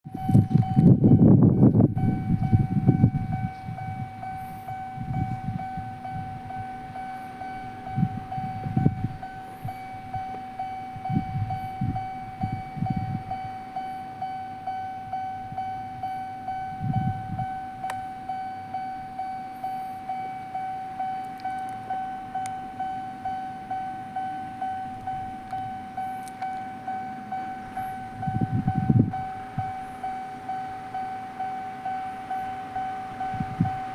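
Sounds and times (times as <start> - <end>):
level crossing bell dinging: 0.1 - 33.9
train rumbling past: 0.1 - 33.9.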